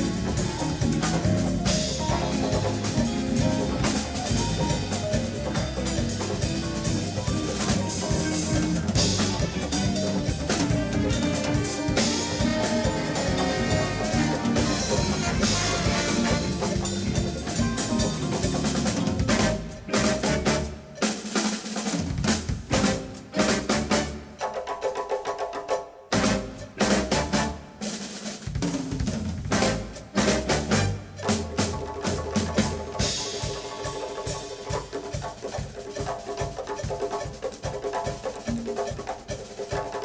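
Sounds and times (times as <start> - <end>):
big band jazz: 0.0 - 40.0
drum kit playing: 0.0 - 40.0.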